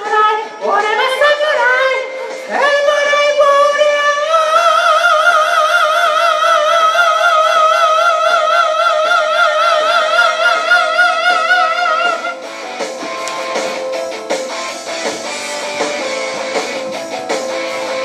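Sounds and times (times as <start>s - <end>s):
faint backing music: 0.0s - 6.1s, 6.8s - 18.0s.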